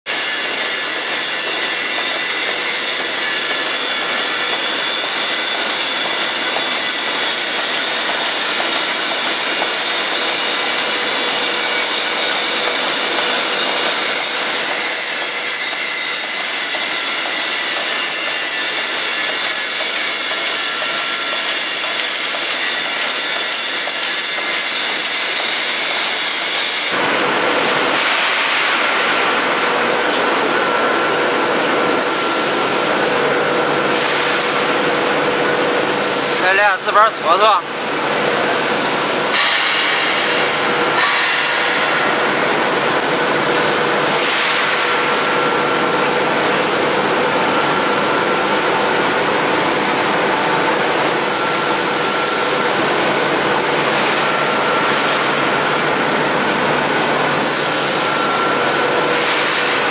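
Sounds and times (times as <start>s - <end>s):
machine drone and whine: 0.1s - 59.9s.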